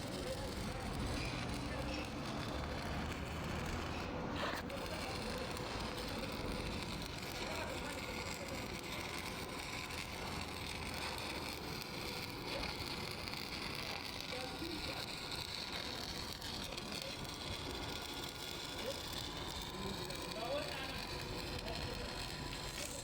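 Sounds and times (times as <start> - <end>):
welding arc crackling and sizzling: 0.0 - 23.0.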